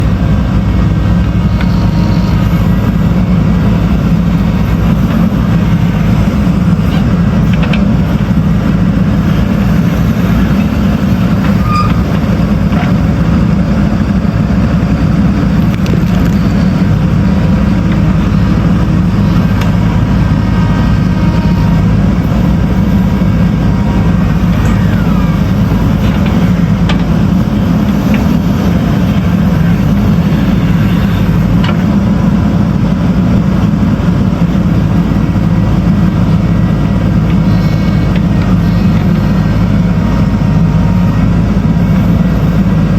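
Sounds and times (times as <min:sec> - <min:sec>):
diesel engine running under load: 0:00.0 - 0:42.9.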